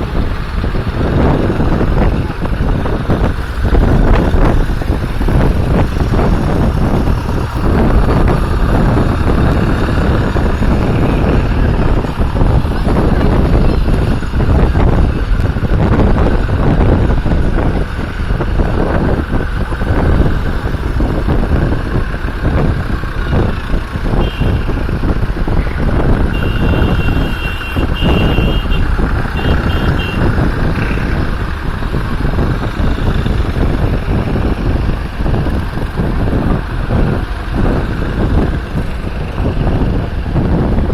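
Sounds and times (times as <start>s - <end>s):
tractor engines running: 0.0s - 40.9s.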